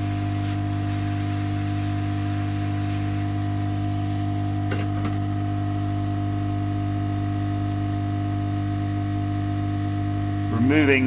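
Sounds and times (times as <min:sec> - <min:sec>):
hot air gun blower humming: 0:00.0 - 0:11.0.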